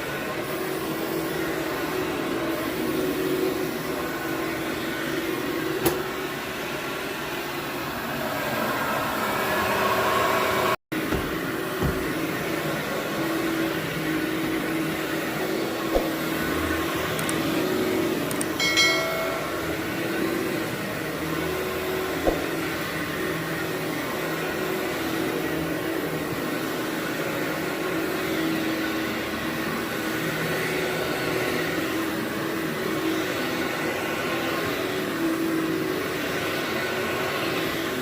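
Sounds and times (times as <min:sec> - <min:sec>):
vacuum cleaner on carpet: 0:00.0 - 0:38.0.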